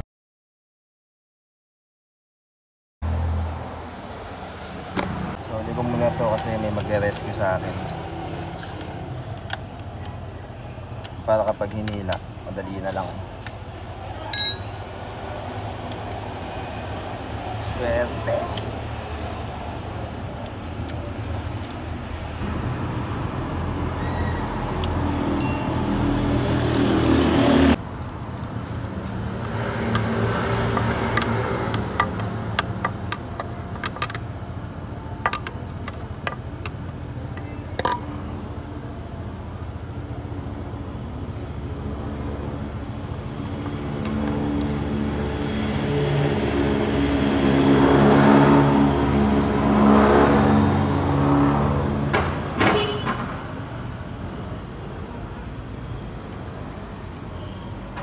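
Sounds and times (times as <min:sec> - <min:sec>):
road noise: 0:03.0 - 0:58.0.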